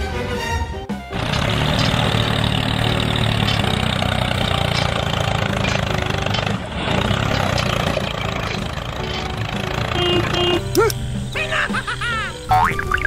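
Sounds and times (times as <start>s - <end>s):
toy excavator engine rumble: 1.1s - 12.7s.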